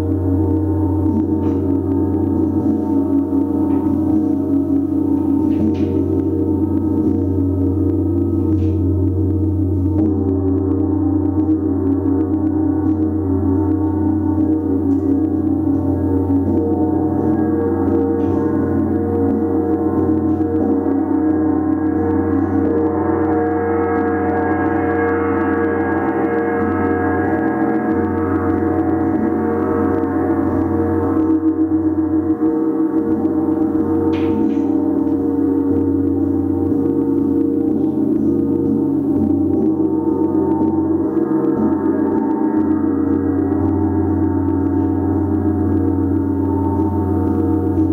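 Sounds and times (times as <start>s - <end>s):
gong ringing: 0.0s - 47.9s.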